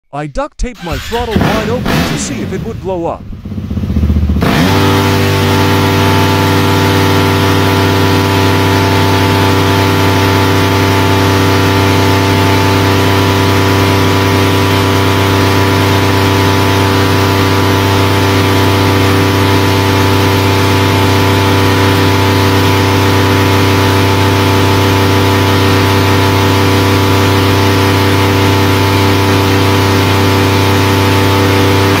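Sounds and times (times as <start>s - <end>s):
motorcycle engine at rev limiter: 1.0s - 32.0s.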